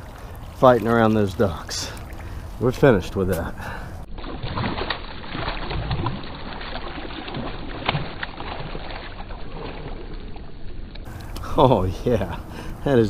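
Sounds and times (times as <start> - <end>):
water sloshing around kayak: 0.0 - 12.8.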